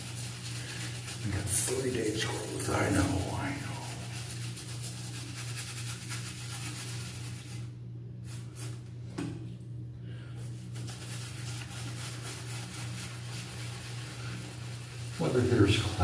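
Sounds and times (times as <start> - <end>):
shaving brush swishing in beard: 0.0 - 8.9, 10.4 - 16.0
constant low hum: 0.0 - 16.0.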